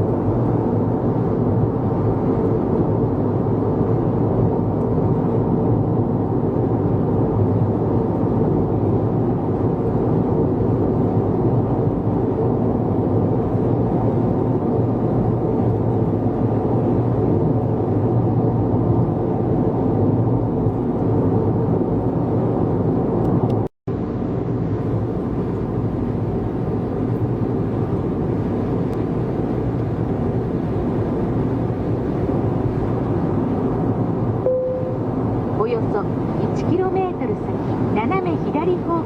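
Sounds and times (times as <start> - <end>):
car road and engine drone: 0.0 - 39.0.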